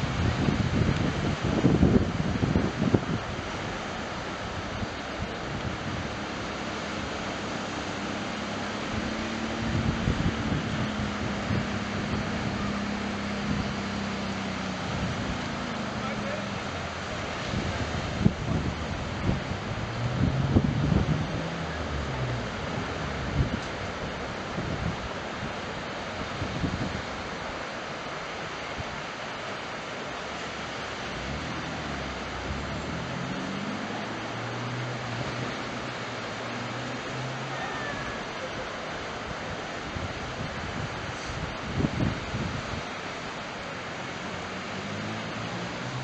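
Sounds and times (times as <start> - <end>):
low engine hum: 0.0 - 46.0
surf and wind hiss: 0.0 - 46.0.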